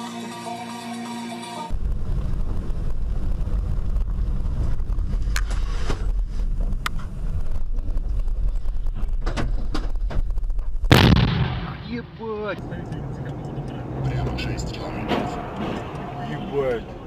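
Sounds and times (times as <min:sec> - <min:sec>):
moving car rumble: 0:01.7 - 0:17.0.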